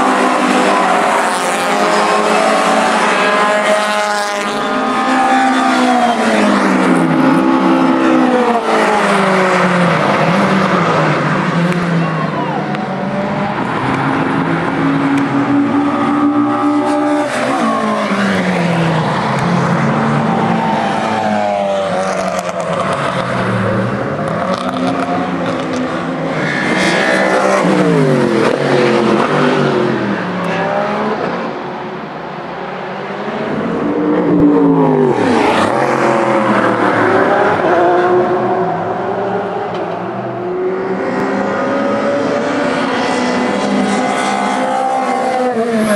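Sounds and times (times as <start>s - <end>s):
racing cars passing at speed: 0.0s - 45.9s.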